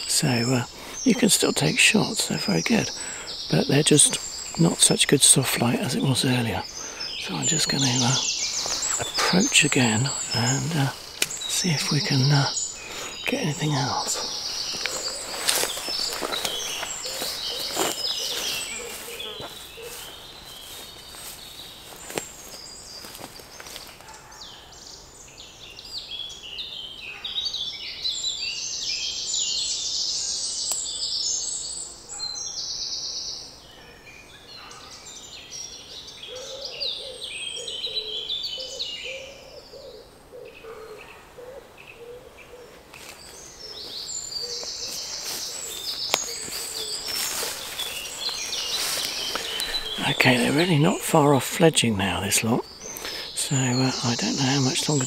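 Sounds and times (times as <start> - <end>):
woodpecker chicks chattering: 0.0 - 24.8, 34.4 - 55.0.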